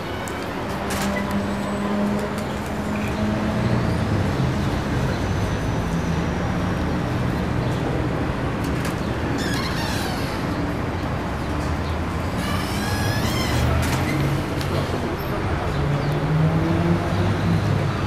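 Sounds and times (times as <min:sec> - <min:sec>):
vehicle engines passing: 0:00.0 - 0:18.0.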